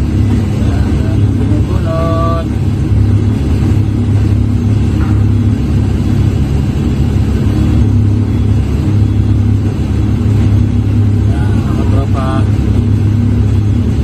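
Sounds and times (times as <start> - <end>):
forklift engine droning: 0.0 - 14.0.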